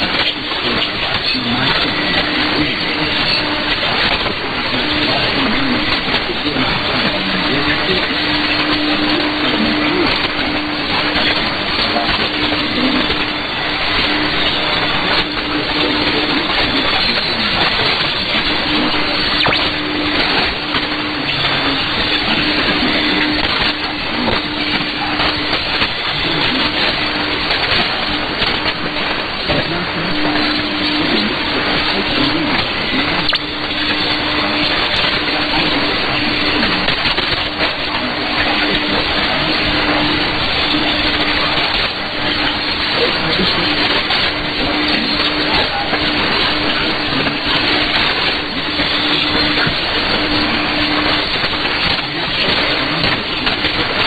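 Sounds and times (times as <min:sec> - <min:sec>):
radio static: 0:00.0 - 0:54.0.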